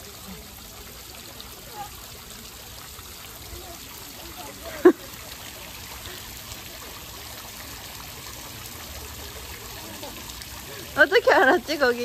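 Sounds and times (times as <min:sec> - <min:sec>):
water trickling over gravel: 0:00.0 - 0:12.0.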